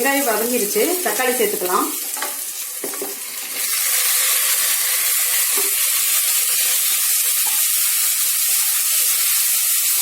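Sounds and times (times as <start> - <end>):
tomatoes sizzling in hot oil: 0.0 - 10.0.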